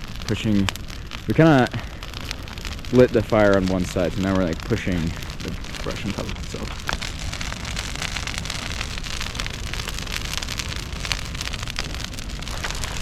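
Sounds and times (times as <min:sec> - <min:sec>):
brush fire crackling and popping: 0:00.0 - 0:13.0
steady low rumble: 0:00.0 - 0:13.0.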